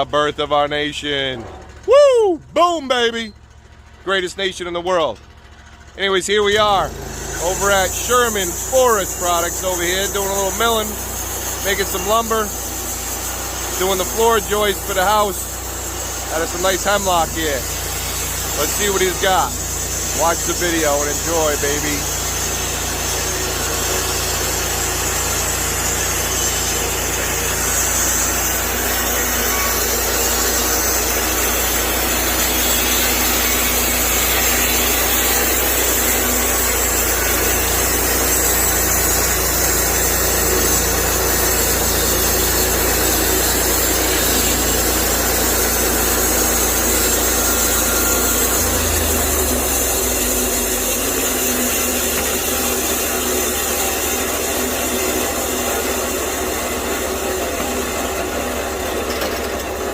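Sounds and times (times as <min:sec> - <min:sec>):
sawmill engine running: 0:00.0 - 0:59.9
saw blade cutting log: 0:06.0 - 0:59.9.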